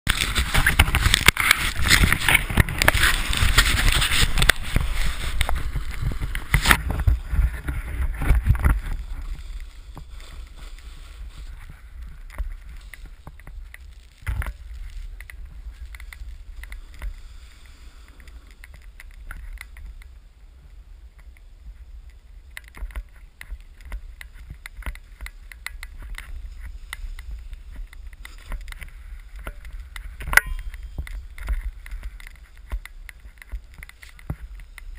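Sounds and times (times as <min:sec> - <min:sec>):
wind buffeting camera: 0:00.0 - 0:34.9
snowboard sliding over snow: 0:00.1 - 0:34.9.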